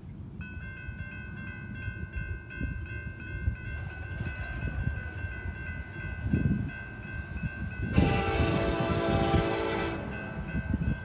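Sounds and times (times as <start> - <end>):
crossing warning bell ringing: 0.3 - 11.0.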